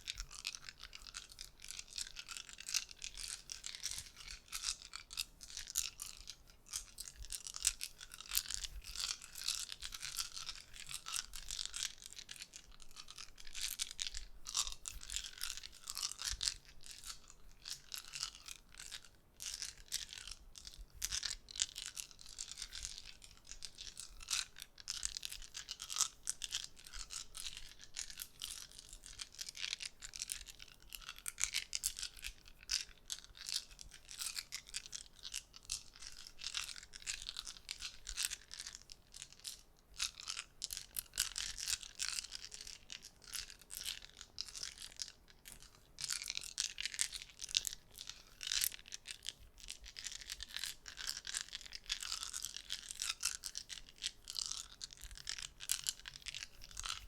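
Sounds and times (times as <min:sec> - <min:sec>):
small objects clicking: 0:00.0 - 0:57.0.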